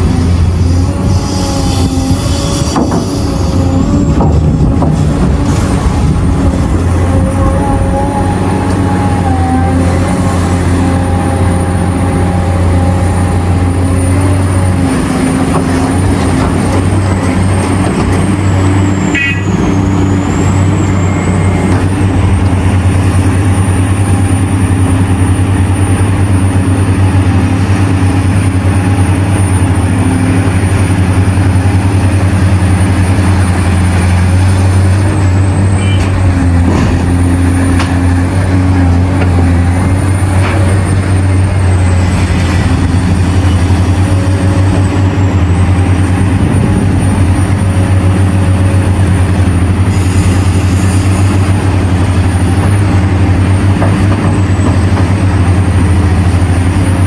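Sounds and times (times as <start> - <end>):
large diesel engines droning: 0.0 - 57.0.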